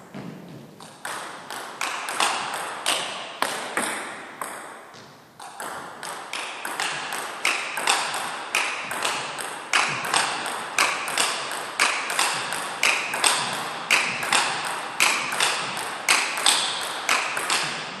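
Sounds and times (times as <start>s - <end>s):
table tennis ball clicking: 0.8s - 4.7s, 5.4s - 18.0s.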